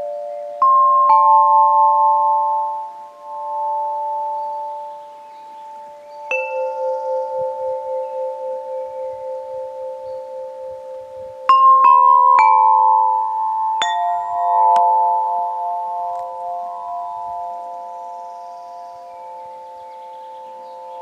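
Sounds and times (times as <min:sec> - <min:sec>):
tube chimes ringing: 0:00.0 - 0:21.0.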